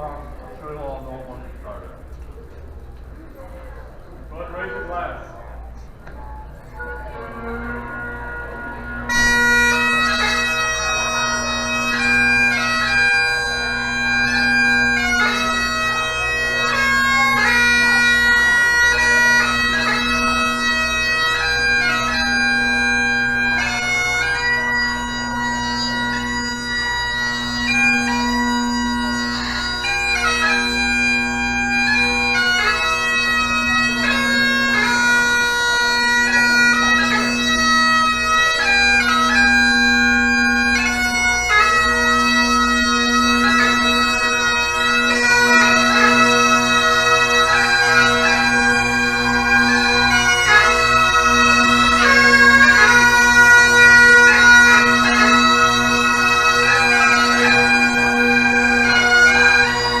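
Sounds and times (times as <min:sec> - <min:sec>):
bagpipes playing melody: 0:06.8 - 1:00.0.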